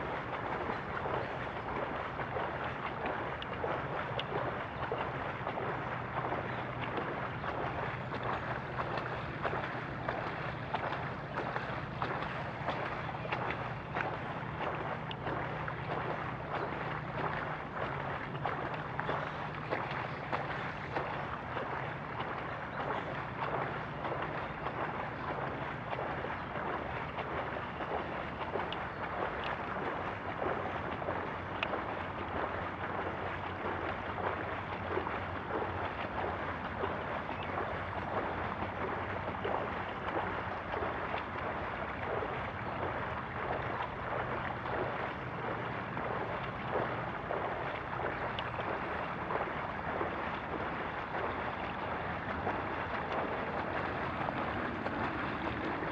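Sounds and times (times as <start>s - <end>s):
bicycle wheels through water: 0.0s - 55.9s
wind noise on microphone: 0.0s - 55.9s.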